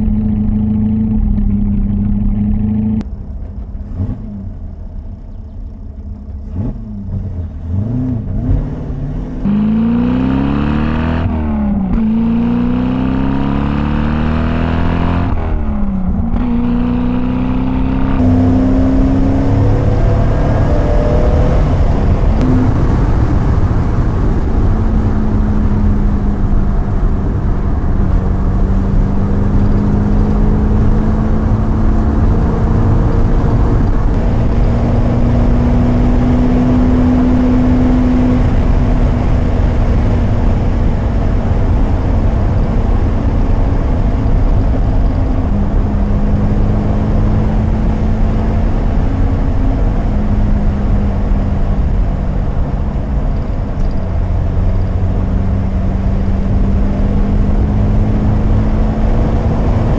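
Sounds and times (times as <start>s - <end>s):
car engine accelerating: 0.0s - 59.9s
tyre noise on road: 0.0s - 59.9s
wind noise: 6.5s - 59.9s.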